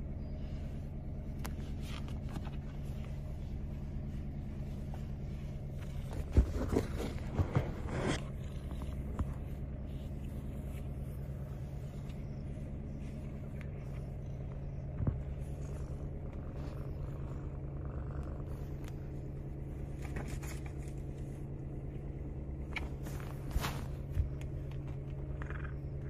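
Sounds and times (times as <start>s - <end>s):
cat purring: 0.0s - 26.0s
handling rustles: 1.2s - 17.4s, 18.4s - 25.4s.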